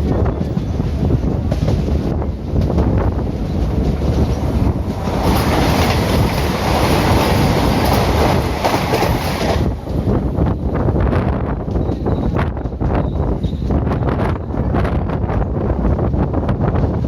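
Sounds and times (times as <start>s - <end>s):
rushing wind: 0.0s - 17.0s
wheels rumbling on rails: 0.0s - 17.0s.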